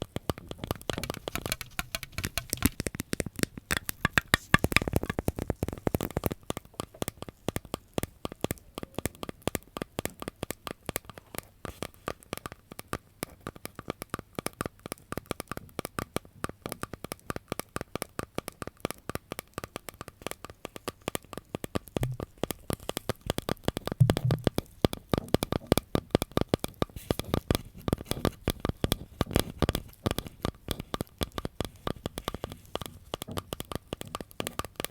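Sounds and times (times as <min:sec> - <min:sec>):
crackling and tapping clicks: 0:00.0 - 0:34.9.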